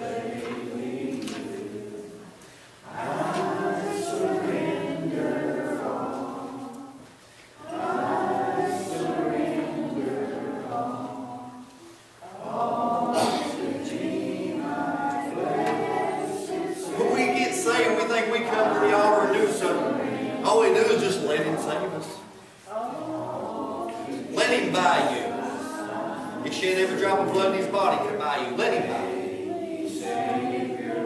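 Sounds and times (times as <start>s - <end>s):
congregation singing a hymn: 0.0s - 31.0s.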